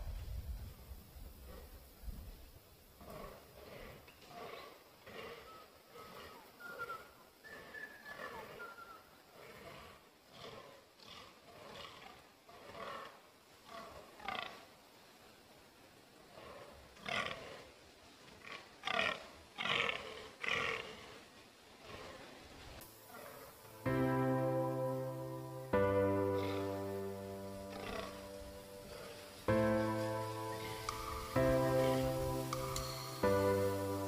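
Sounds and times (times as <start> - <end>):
deer croaking calls: 3.0 - 14.7, 16.3 - 17.8, 18.4 - 22.3, 22.9 - 34.0.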